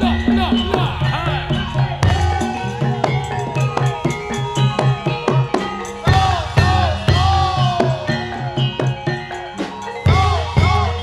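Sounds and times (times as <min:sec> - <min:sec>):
drums: 0:00.0 - 0:11.0
melody bending in pitch: 0:00.0 - 0:11.0
struck pitched percussion: 0:00.0 - 0:11.0.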